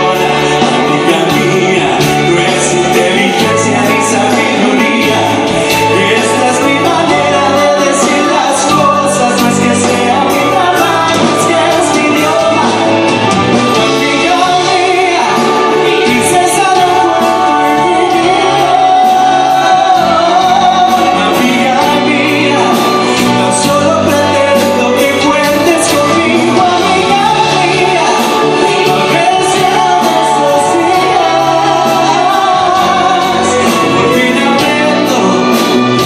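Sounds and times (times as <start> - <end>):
man singing: 0.0 - 36.0
orchestra playing pop ballad: 0.0 - 36.0.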